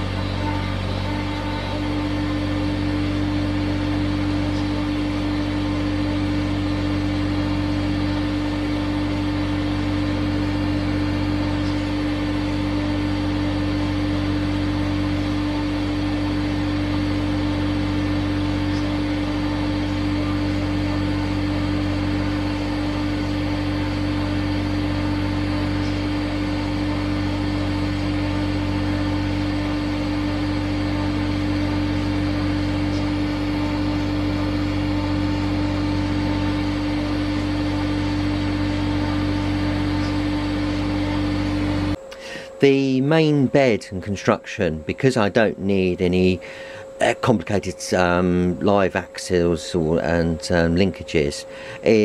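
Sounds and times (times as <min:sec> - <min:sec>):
torch flame hissing: 0:00.0 - 0:43.4
stepper motors humming: 0:00.0 - 0:52.0.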